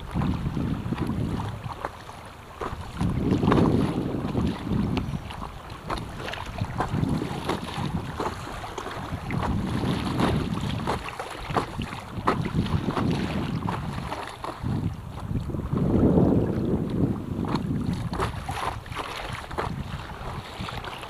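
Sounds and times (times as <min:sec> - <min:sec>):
choppy water splashes: 0:00.0 - 0:21.0
paddle strokes: 0:00.0 - 0:21.0
wind buffeting microphone: 0:00.0 - 0:21.0.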